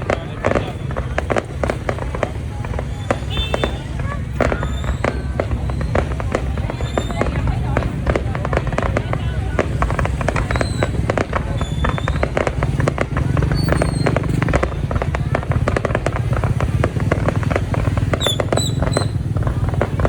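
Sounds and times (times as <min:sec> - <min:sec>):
fireworks popping and banging: 0:00.0 - 0:20.0.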